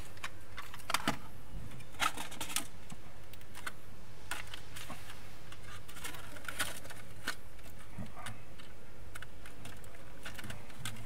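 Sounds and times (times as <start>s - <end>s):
plastic and metal parts clicking: 0.0s - 11.0s
steady low hum: 0.0s - 11.0s.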